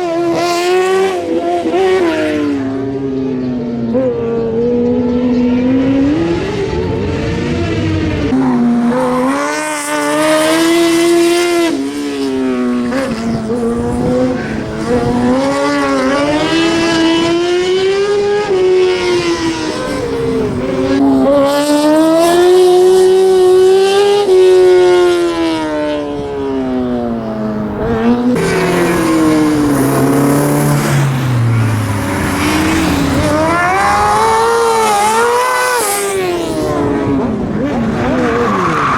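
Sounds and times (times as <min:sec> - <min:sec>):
race car engine revving: 0:04.0 - 0:38.9.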